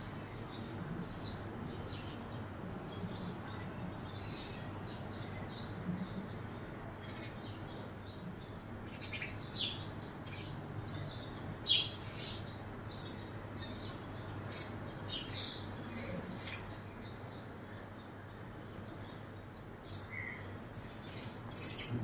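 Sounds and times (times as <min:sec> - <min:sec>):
sparrows chirping: 0:00.0 - 0:22.0.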